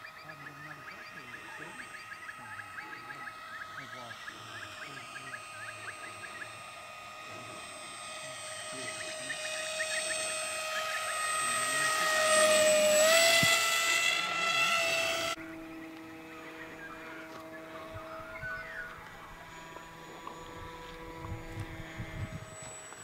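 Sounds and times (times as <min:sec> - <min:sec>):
model aircraft motor whining: 0:00.0 - 0:23.0.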